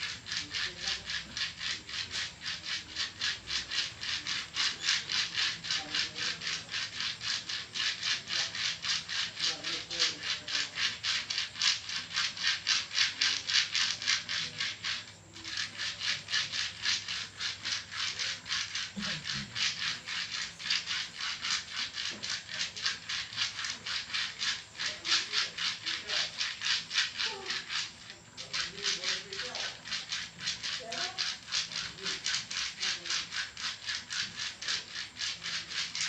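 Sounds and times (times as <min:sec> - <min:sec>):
rhythmic massage rubbing strokes: 0:00.0 - 0:36.0.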